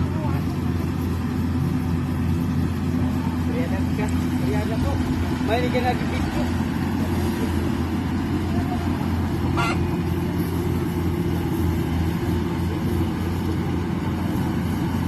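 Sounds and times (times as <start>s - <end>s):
combine harvester engine droning: 0.0s - 15.0s.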